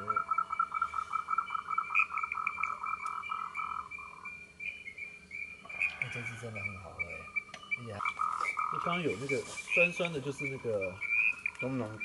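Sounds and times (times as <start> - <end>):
frog calling in pulsed notes: 0.0 - 12.0.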